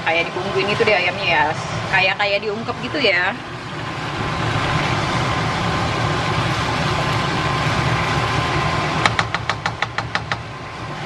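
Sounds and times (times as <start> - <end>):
exhaust fan rushing with whine: 0.0 - 11.0.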